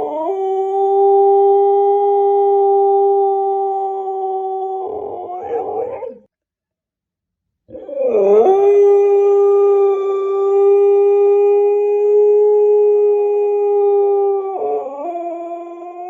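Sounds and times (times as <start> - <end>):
puppy howling: 0.0 - 6.3, 7.7 - 16.0.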